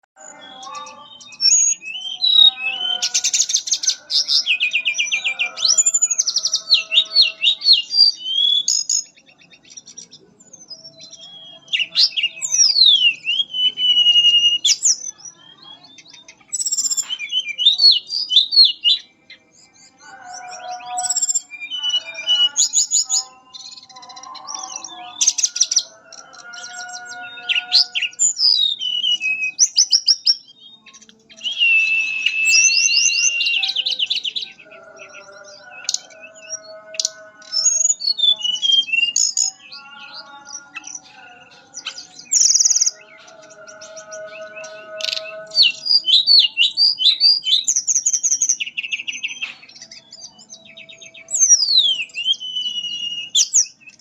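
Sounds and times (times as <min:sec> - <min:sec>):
low warbling chatter: 0:00.0 - 0:54.0
bird singing whistled trills: 0:00.2 - 0:54.0.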